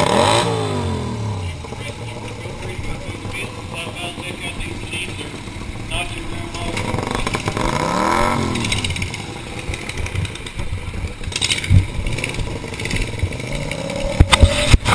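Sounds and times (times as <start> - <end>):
race car engine revving: 0.0 - 14.9
clatter: 1.6 - 14.9.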